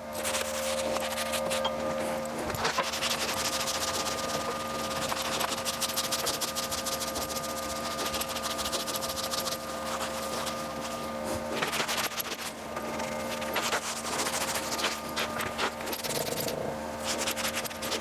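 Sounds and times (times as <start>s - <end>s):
small machine motor humming: 0.0s - 18.0s.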